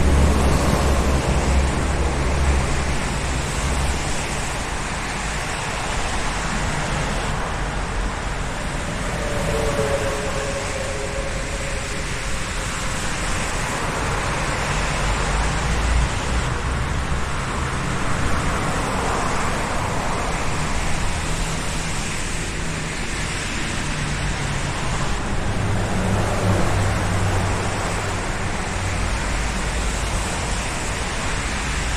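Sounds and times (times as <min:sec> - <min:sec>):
passing cars: 0:00.0 - 0:31.9.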